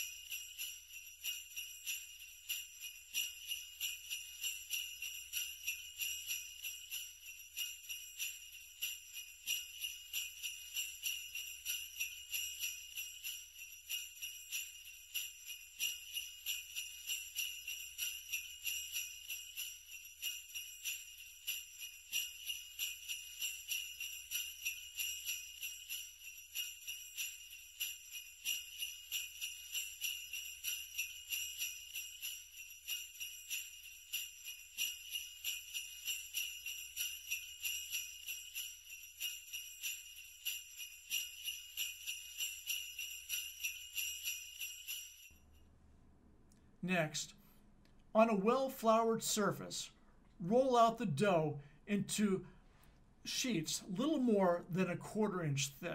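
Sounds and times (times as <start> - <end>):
sleigh bells jingling: 0.0 - 45.4, 53.3 - 55.9.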